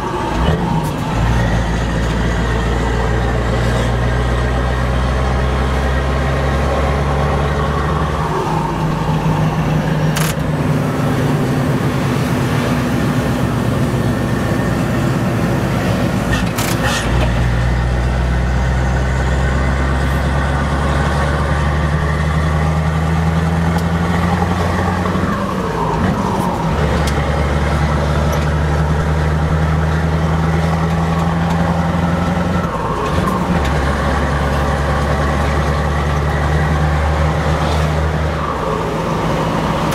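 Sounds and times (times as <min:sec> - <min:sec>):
diesel truck engine from cab: 0:00.0 - 0:39.9.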